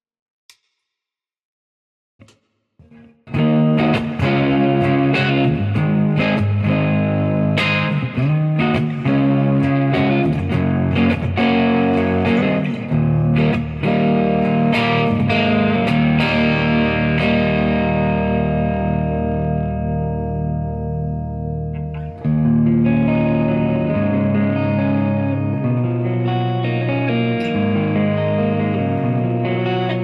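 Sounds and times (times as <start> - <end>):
overdriven electric guitar: 2.8 - 30.0.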